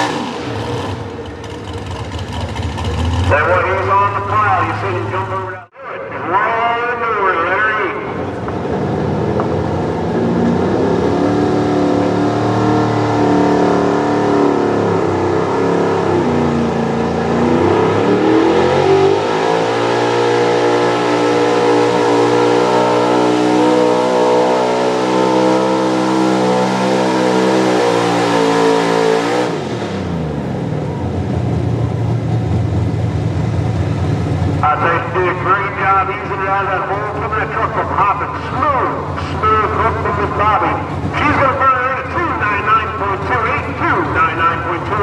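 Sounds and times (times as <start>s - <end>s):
truck engine at full throttle: 0.0s - 45.0s.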